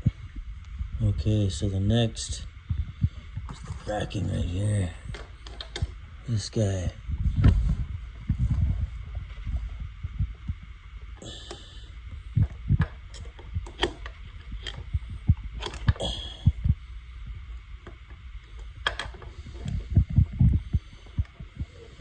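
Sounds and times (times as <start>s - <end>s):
microphone handling rumble: 0.0s - 22.0s.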